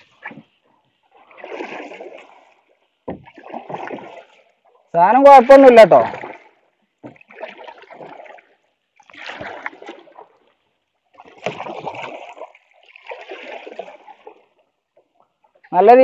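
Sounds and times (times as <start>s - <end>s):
paddle strokes splashing water: 0.0s - 15.9s.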